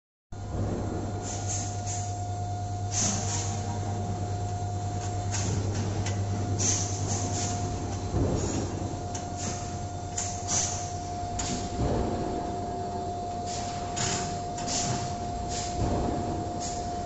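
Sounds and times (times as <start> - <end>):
low clunking rumble: 0.4 - 1.2, 4.2 - 17.0
machine humming with whine: 0.4 - 17.0.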